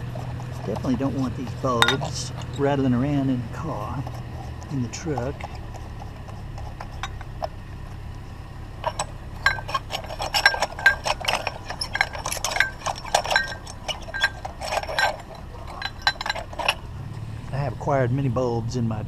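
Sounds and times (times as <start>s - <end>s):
glass bulbs clinking: 0.0s - 17.2s
low steady hum: 0.0s - 19.0s.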